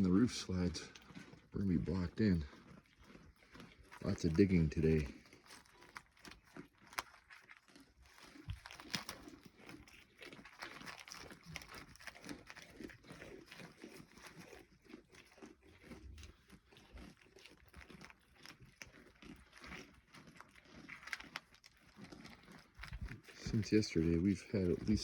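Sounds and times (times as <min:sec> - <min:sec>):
faint irregular crunching: 0:00.0 - 0:25.0.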